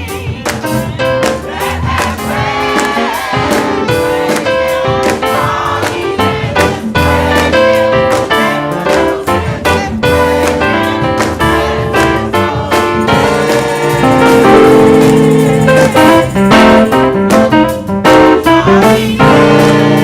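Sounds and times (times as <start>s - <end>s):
drums steady beat: 0.0s - 20.0s
gospel band music: 0.0s - 20.0s
piano playing: 0.0s - 20.0s.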